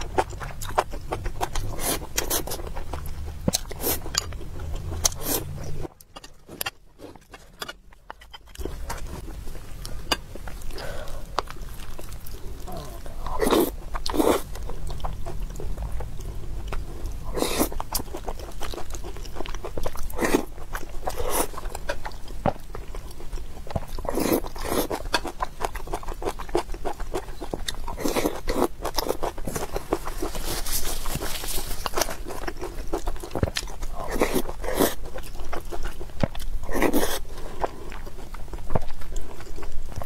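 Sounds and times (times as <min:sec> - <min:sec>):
chewing and mouth sounds: 0:00.0 - 0:40.0.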